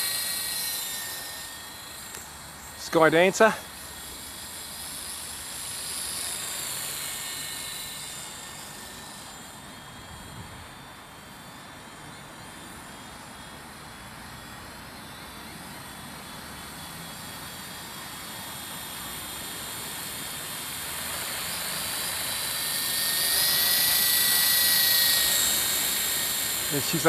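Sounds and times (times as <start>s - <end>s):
rc helicopter motor whine: 0.0s - 27.0s.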